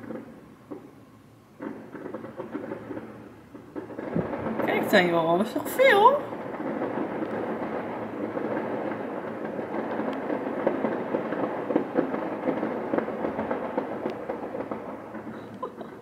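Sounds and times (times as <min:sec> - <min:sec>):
sharp firework cracks: 0:00.0 - 0:01.0, 0:01.6 - 0:16.0
fireworks crackling and banging: 0:00.0 - 0:16.0.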